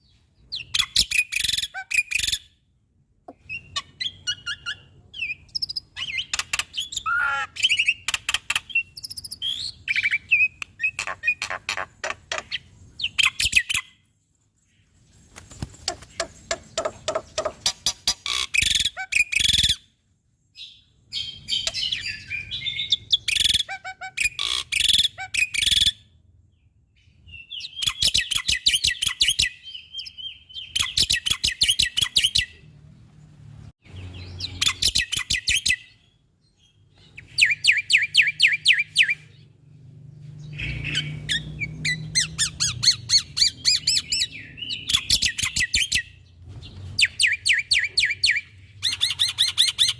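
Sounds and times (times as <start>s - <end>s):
myna bird chirping: 0.0s - 2.6s, 3.3s - 49.9s.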